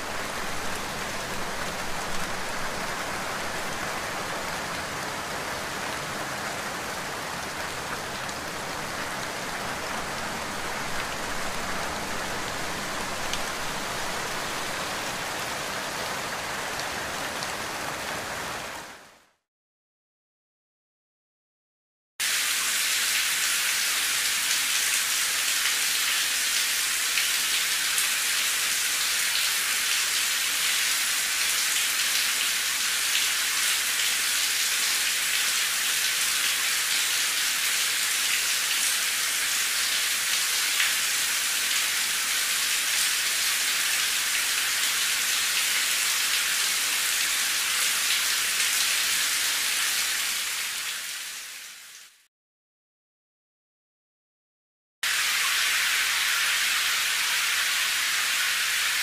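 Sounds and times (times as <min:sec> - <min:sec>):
rain falling steadily: 0:00.0 - 0:19.4, 0:22.2 - 0:52.3, 0:55.0 - 0:59.0.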